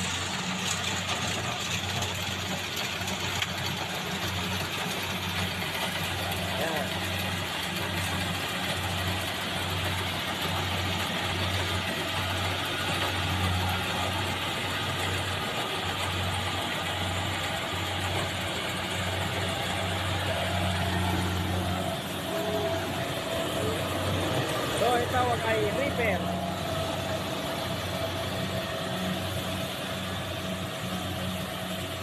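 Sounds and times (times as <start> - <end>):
harvester engine droning: 0.0 - 32.0.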